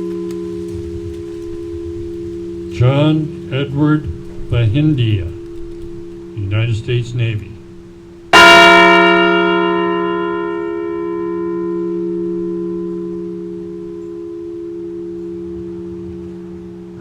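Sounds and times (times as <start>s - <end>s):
large bell tolling: 0.0s - 17.0s.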